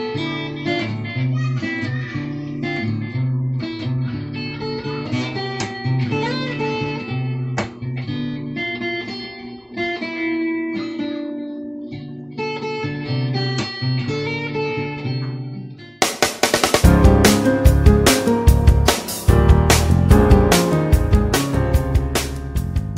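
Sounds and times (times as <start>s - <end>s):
acoustic guitar melody and chords: 0.0s - 22.9s.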